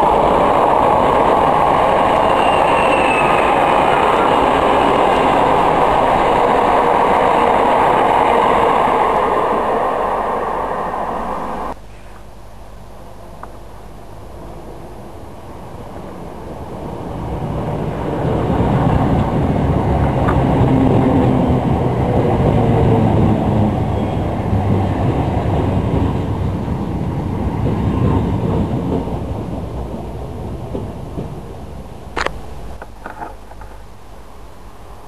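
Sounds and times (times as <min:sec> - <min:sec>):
train rumble with low hum: 0:00.0 - 0:35.0.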